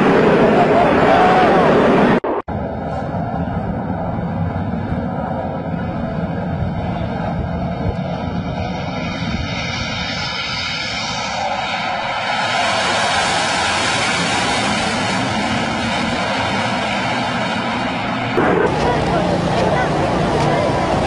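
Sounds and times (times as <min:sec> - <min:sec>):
high jet whine: 0:00.0 - 0:21.0
jet engine roar: 0:00.0 - 0:21.0.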